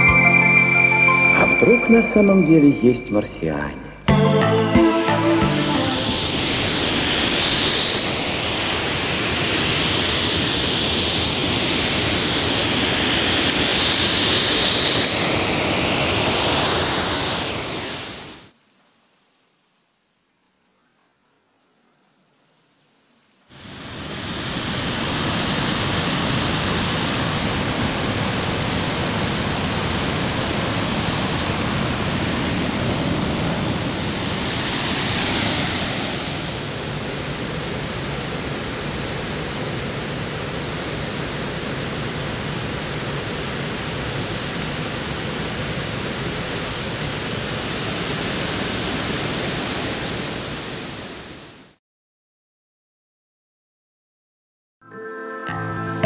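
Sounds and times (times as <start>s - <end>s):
steady rushing hiss: 5.6s - 51.5s.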